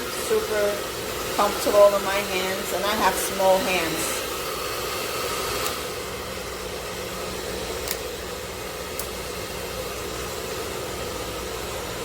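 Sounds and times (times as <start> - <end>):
hair dryer blowing air: 0.0 - 12.0.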